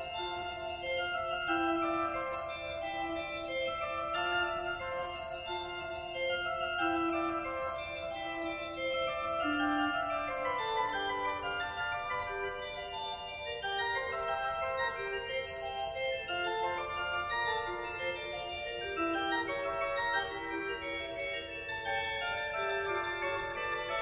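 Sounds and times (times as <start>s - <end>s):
organ playing held chords: 0.0s - 24.0s.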